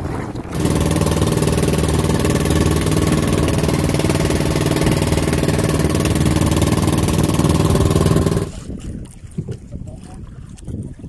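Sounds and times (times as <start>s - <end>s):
motorboat engine running: 0.0s - 9.6s.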